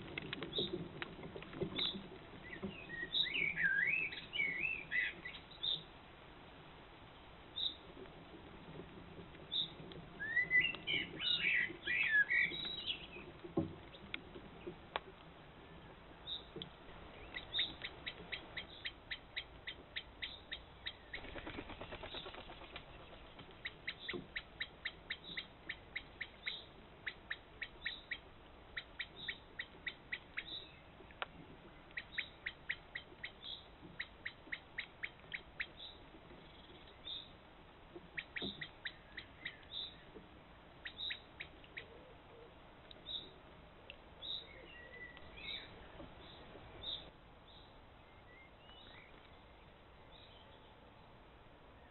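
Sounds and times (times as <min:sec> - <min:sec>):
songbirds warbling: 0:01.6 - 0:05.9, 0:09.4 - 0:14.8, 0:15.4 - 0:43.4, 0:44.2 - 0:51.9.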